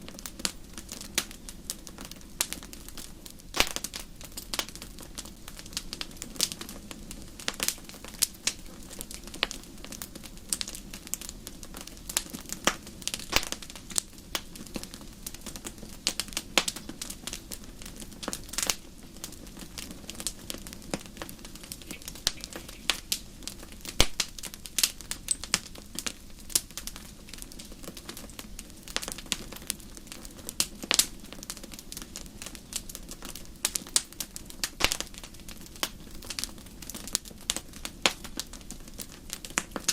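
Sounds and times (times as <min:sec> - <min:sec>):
bonfire crackling and popping: 0:00.0 - 0:39.9
low hiss of burning: 0:00.0 - 0:39.9.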